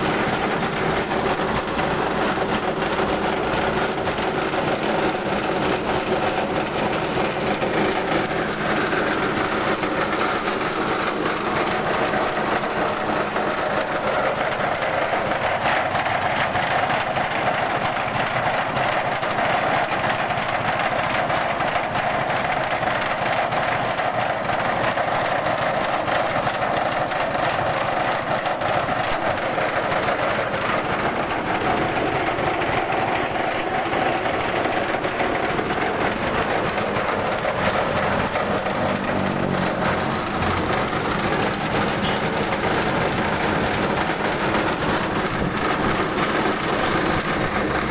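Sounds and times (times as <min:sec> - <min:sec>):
bran pouring from chute: 0:00.0 - 0:47.9
rice huller machine running: 0:00.0 - 0:47.9.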